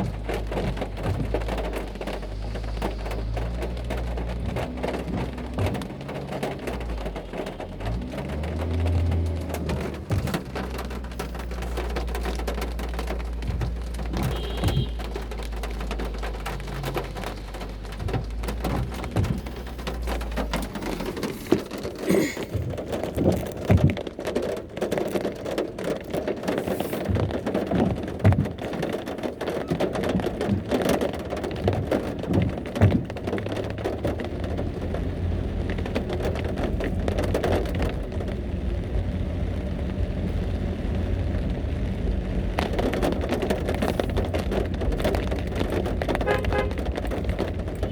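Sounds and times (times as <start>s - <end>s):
heavy rain on hard surface: 0.0s - 47.9s.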